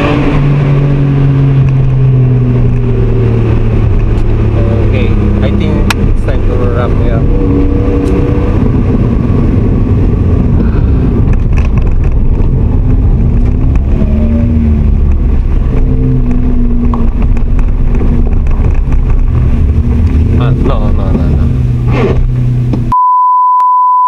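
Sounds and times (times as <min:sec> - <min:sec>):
car engine and exhaust: 0:00.0 - 0:23.0
road rumble: 0:00.0 - 0:23.0.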